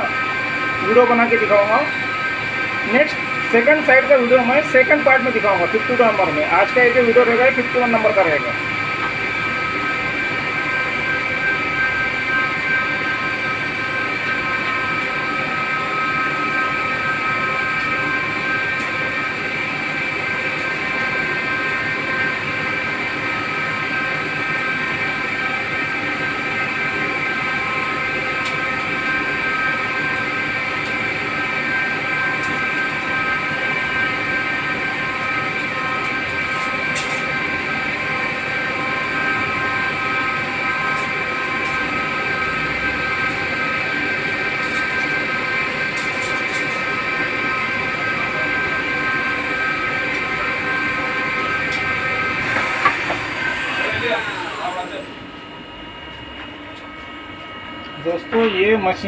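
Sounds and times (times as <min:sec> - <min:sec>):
lathe spindle whining: 0:00.0 - 0:59.0.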